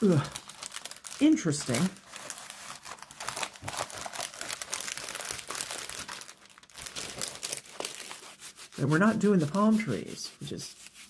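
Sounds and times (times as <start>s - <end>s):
plastic film crinkling: 0.0s - 10.0s.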